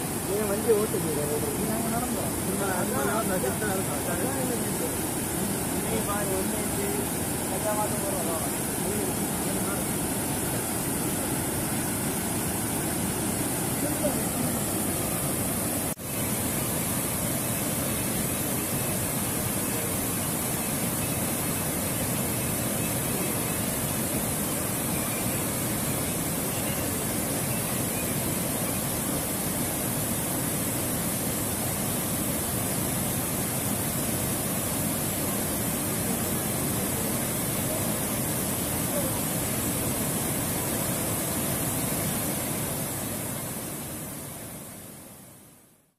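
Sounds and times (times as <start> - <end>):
river water rushing over weir: 0.0 - 45.6.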